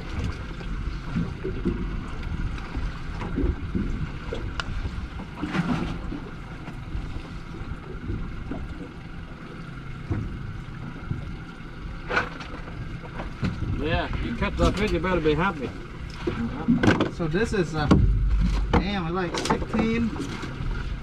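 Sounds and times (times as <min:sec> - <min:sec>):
water around boat: 0:00.0 - 0:21.0.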